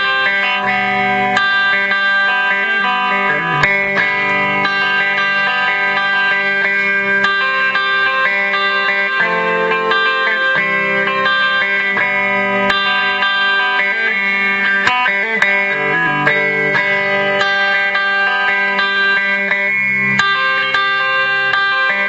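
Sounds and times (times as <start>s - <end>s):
electric guitar ringing chords: 0.0s - 22.0s.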